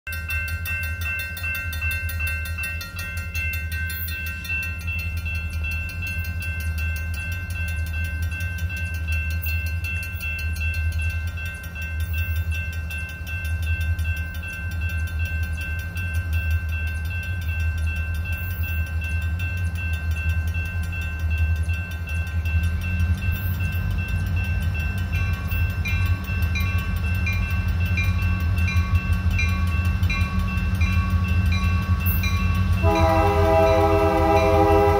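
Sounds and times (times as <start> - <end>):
crossing bell ringing: 0.1 - 34.9
diesel locomotive rumble: 0.2 - 34.9.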